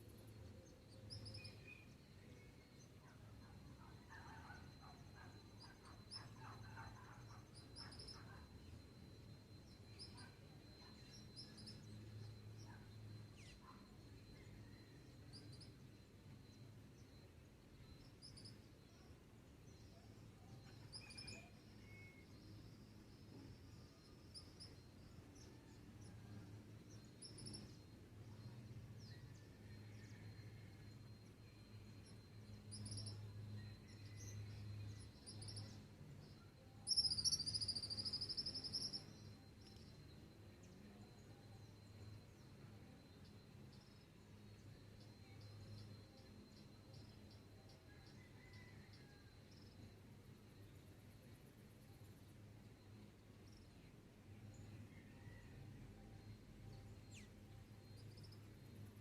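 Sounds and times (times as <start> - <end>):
high-pitched insect drone: 0.0 - 48.2
thin steady high tone: 0.0 - 59.0.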